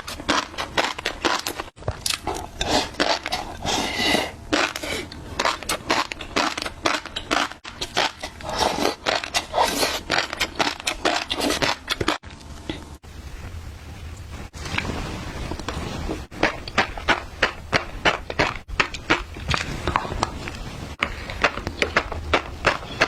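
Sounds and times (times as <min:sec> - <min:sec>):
crunchy chewing: 0:00.0 - 0:13.0, 0:16.3 - 0:23.0.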